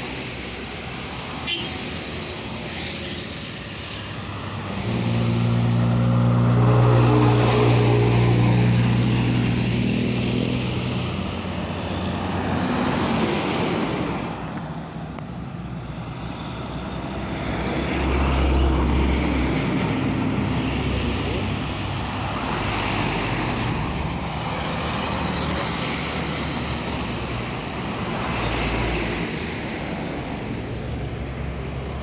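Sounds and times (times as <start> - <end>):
trucks passing on highway: 0.0 - 32.0.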